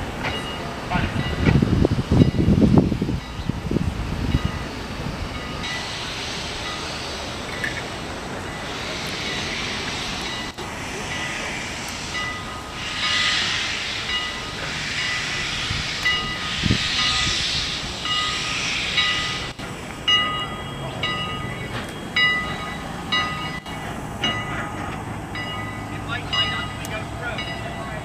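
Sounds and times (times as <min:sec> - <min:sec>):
train wheels clacking over rail joints: 0:00.0 - 0:03.5, 0:04.3 - 0:17.4, 0:18.0 - 0:28.0
train hissing: 0:00.0 - 0:28.0.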